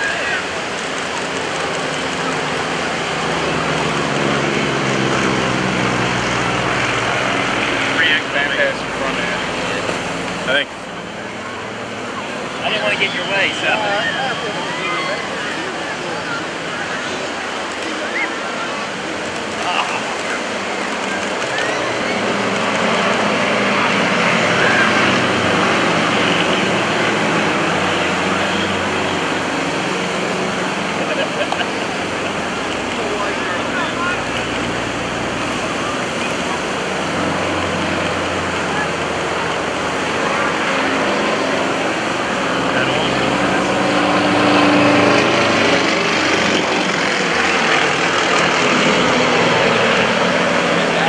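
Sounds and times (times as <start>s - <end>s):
broad rushing noise: 0.0s - 51.0s
radial aircraft engine droning: 0.0s - 51.0s.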